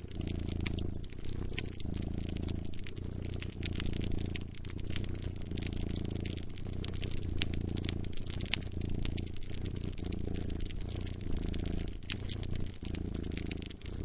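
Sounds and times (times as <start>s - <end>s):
cat purring: 0.0s - 14.0s
wood fire crackling: 0.0s - 14.0s.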